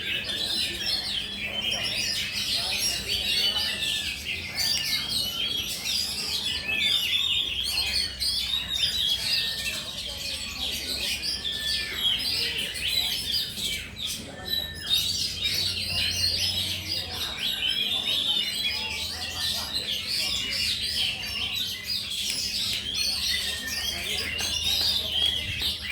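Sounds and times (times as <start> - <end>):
songbirds chirping and trilling: 0.0 - 25.9.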